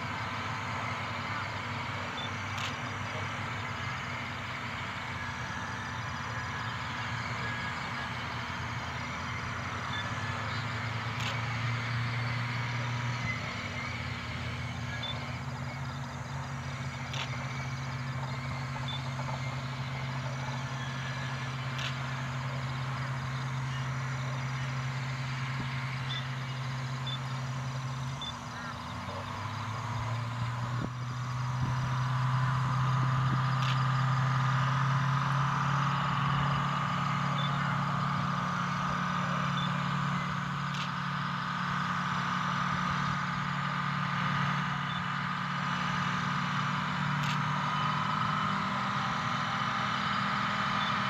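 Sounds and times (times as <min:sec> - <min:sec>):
diesel locomotive engine hum: 0:00.0 - 0:51.0.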